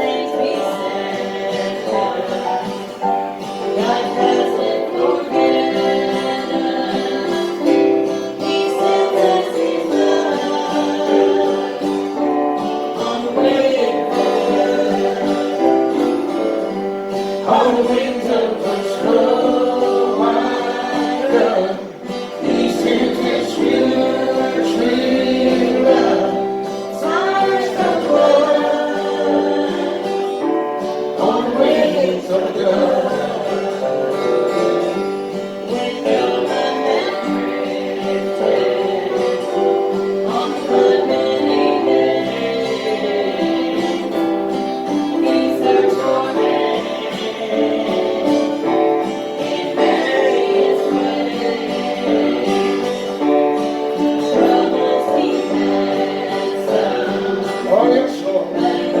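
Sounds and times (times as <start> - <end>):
gospel singing with instruments: 0.0 - 59.0.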